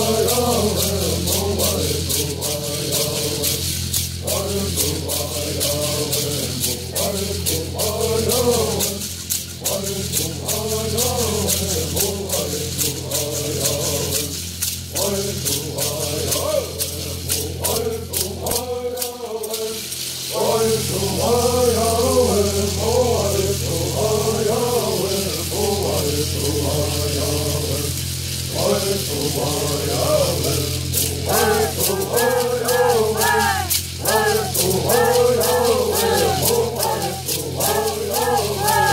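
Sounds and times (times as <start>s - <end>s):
gourd rattles shaken: 0.0s - 38.9s
men singing in unison: 0.0s - 38.9s.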